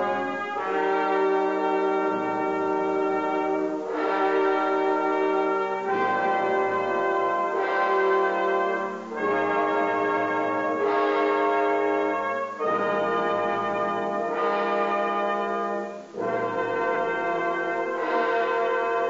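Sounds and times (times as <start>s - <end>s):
orchestral brass chords: 0.0s - 19.0s.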